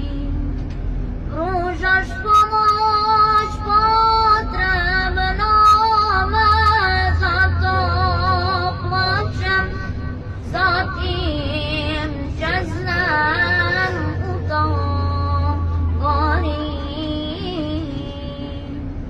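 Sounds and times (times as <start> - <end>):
low steady drone: 0.0 - 19.0.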